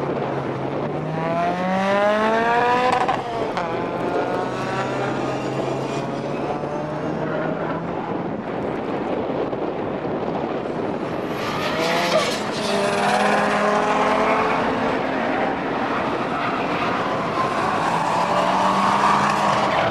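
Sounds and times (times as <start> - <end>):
car engines revving: 0.0 - 19.9.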